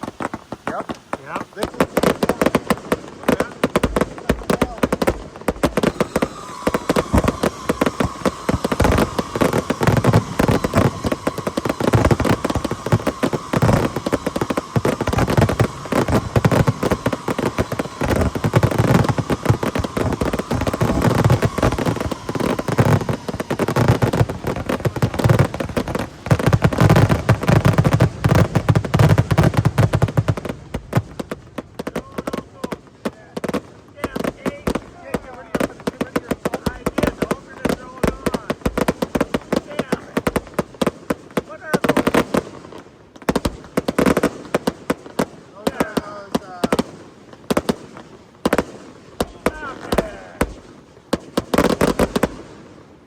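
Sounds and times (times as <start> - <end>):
fireworks barrage of bangs: 0.0 - 53.0.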